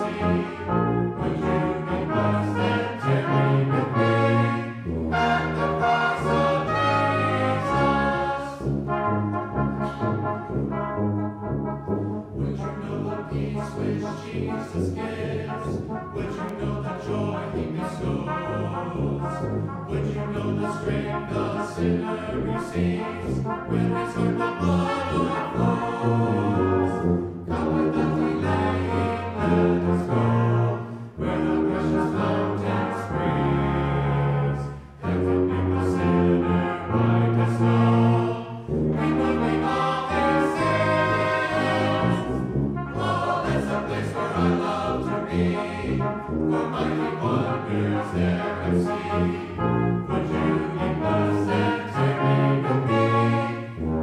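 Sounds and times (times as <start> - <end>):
brass band playing a hymn: 0.0 - 54.0.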